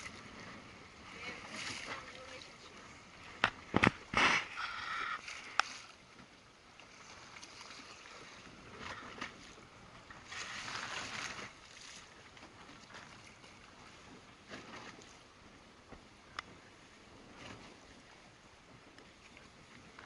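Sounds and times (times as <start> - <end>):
water splashing against boat hull: 0.0 - 20.0.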